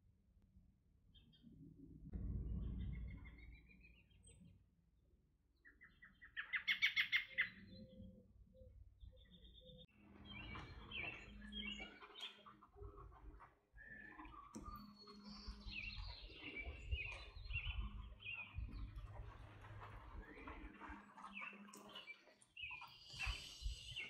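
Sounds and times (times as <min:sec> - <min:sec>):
birds chirping and singing: 0:02.4 - 0:04.5, 0:05.6 - 0:24.0.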